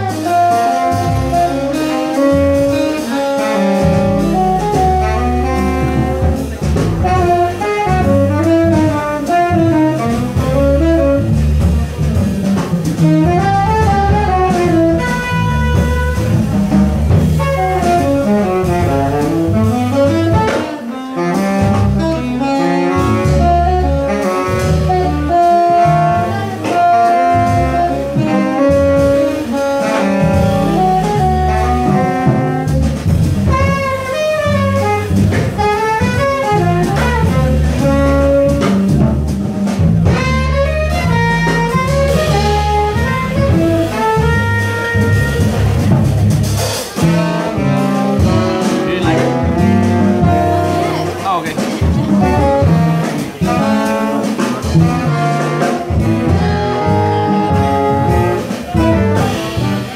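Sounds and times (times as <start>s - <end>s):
double bass: 0.0s - 59.9s
drum kit: 0.0s - 59.9s
piano: 0.0s - 59.9s
saxophones playing: 0.0s - 59.9s.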